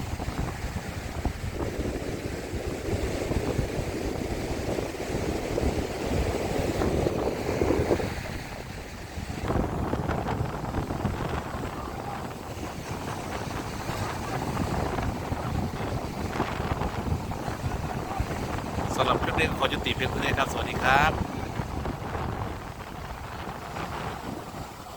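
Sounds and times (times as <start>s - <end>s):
surf breaking on beach: 0.0s - 24.9s
wind buffeting microphone: 0.0s - 24.9s.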